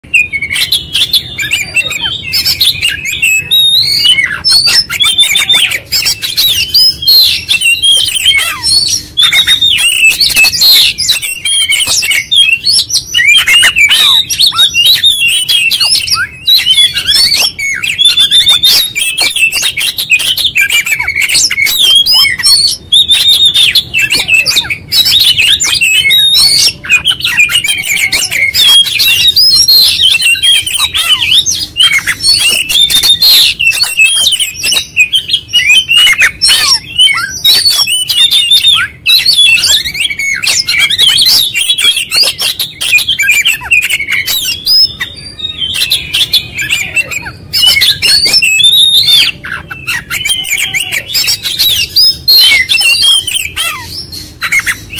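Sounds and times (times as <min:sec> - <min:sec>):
magpie-robin singing: 0:00.0 - 0:54.9.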